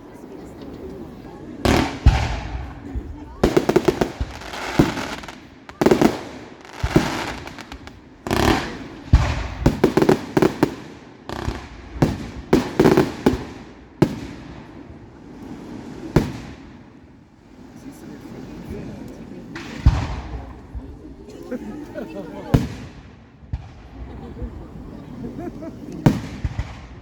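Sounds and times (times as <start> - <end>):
fireworks bangs: 0.2 - 21.2, 22.4 - 27.0.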